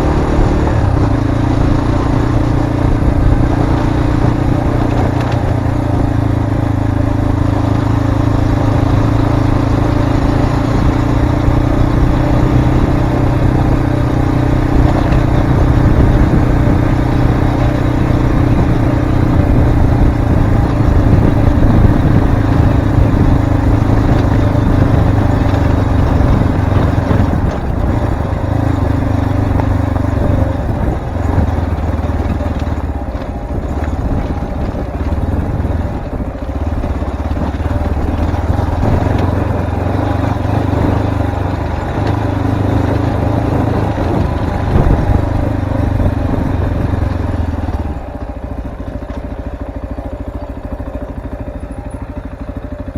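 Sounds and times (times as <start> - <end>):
motorcycle engine running: 0.0 - 52.9
riding noise: 0.0 - 52.9.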